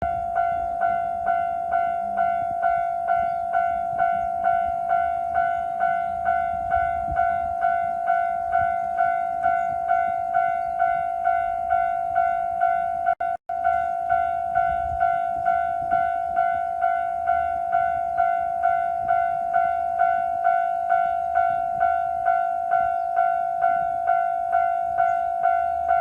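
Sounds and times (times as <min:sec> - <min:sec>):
railroad crossing warning bell: 0:00.0 - 0:26.0.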